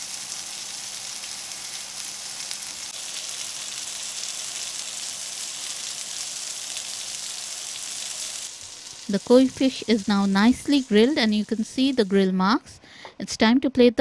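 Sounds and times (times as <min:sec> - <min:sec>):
fish sizzling in oil: 0:00.0 - 0:12.6.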